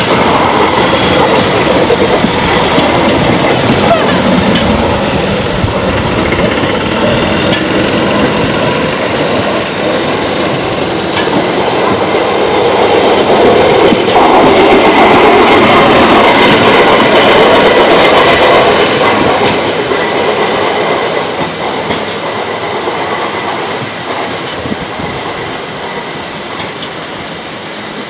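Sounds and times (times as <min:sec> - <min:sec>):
small wheels rumbling on rails: 0:00.0 - 0:27.4
wheels clacking over rail joints: 0:00.0 - 0:27.4.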